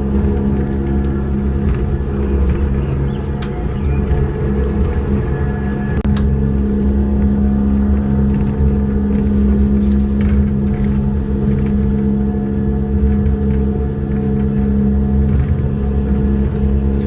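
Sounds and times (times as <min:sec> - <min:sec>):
monorail car motor drone: 0:00.0 - 0:17.0.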